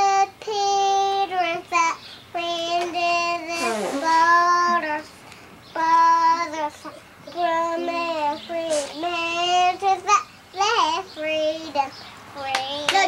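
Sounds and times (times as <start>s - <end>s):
girl singing unaccompanied: 0.0s - 13.0s.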